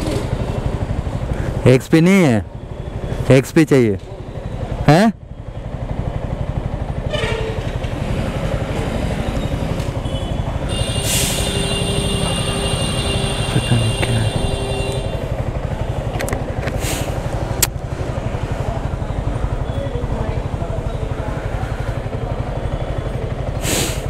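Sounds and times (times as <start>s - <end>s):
motorcycle engine running at low revs: 0.0s - 1.6s, 4.1s - 24.0s.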